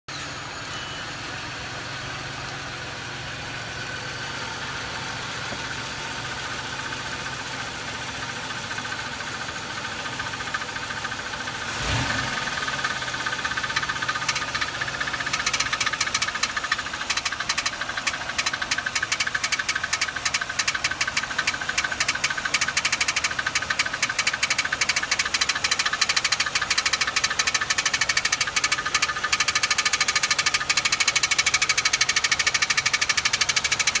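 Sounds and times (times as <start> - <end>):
engine running with rapid ticking: 0.1 - 34.0.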